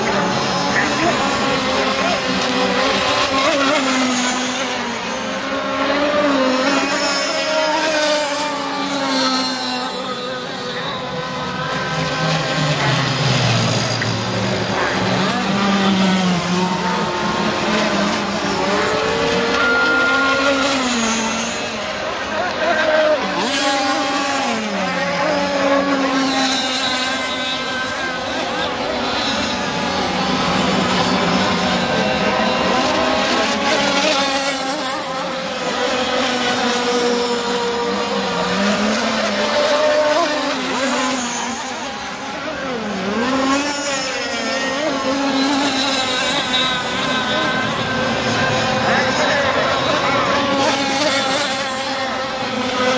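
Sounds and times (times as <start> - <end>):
model boat engines racing: 0.0 - 52.9.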